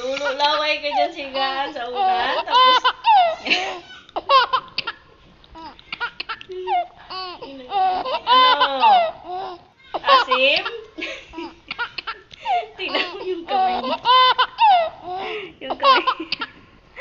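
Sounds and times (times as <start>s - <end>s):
high-pitched laughter and giggling: 0.0s - 5.0s, 6.4s - 9.4s, 10.0s - 16.6s.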